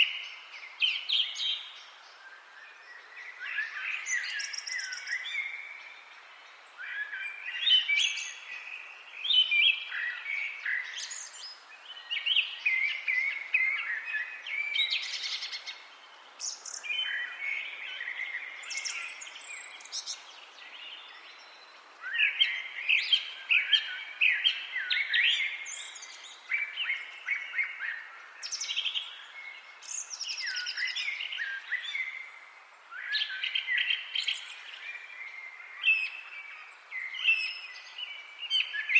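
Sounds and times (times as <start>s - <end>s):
soft steady background hiss: 0.0s - 38.9s
songbirds singing: 0.0s - 38.9s.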